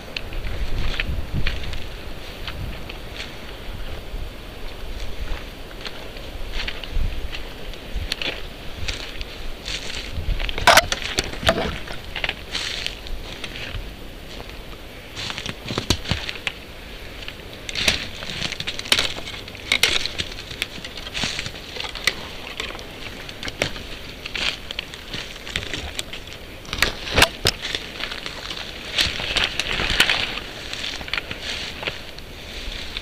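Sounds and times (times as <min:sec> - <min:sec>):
branches rustling: 0:00.0 - 0:33.0
footsteps crunching on forest litter: 0:00.0 - 0:33.0.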